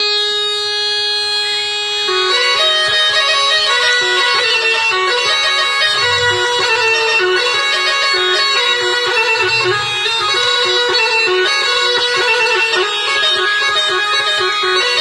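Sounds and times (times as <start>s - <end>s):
bagpipe music: 0.0s - 15.0s.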